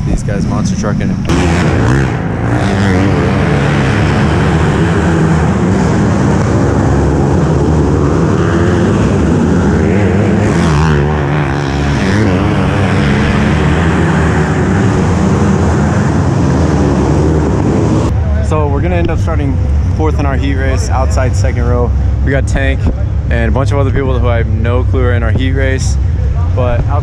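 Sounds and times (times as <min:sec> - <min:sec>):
kart engines racing: 0:00.0 - 0:27.0.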